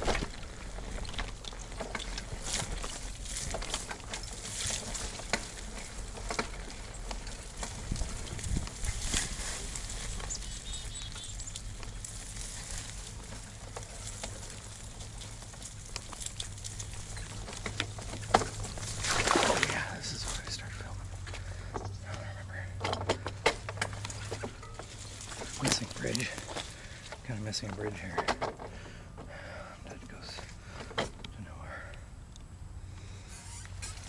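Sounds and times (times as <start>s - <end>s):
leaves and grass rustling: 0.0s - 30.9s, 32.8s - 34.0s
bike clicks and rattles on ground: 0.0s - 34.0s.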